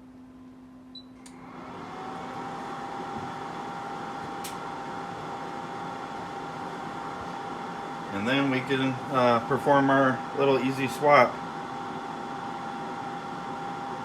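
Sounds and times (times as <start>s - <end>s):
hot-air blower hum with whine: 0.0s - 14.0s.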